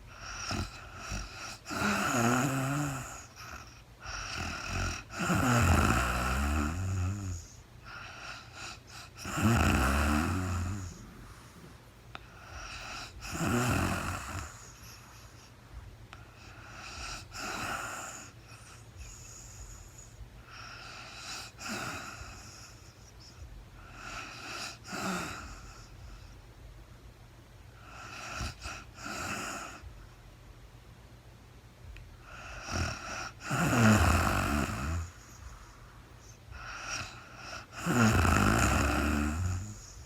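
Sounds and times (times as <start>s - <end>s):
woman snoring: 0.0s - 15.5s, 16.2s - 26.3s, 27.8s - 29.9s, 32.2s - 40.0s.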